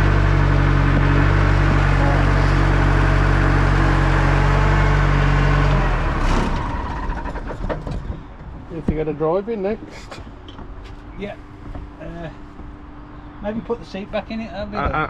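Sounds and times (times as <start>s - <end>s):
diesel engine idling: 0.0s - 14.8s.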